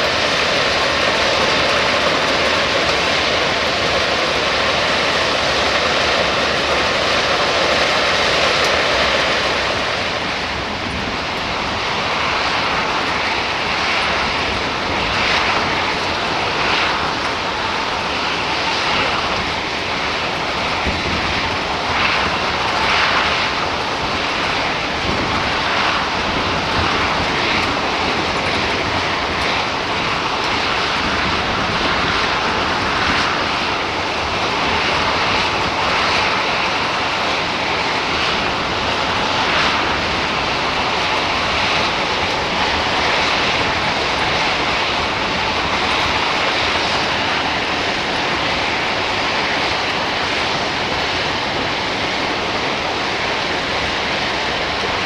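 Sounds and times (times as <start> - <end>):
rushing noise: 0.0 - 55.0.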